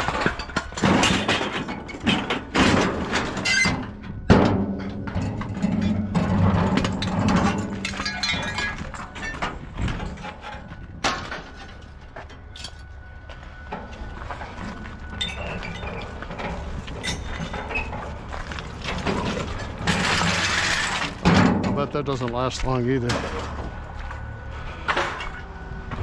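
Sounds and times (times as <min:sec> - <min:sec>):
scrap metal knocking and clinking: 0:00.0 - 0:12.9, 0:13.7 - 0:21.8.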